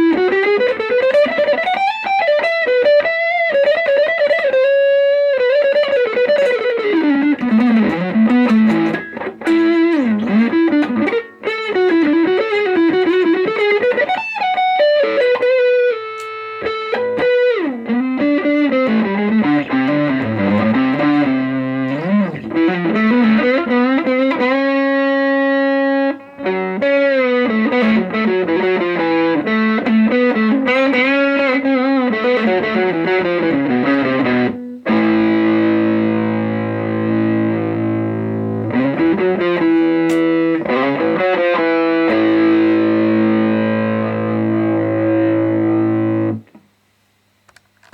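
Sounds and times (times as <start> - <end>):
electric guitar melody through effects: 0.0 - 46.8.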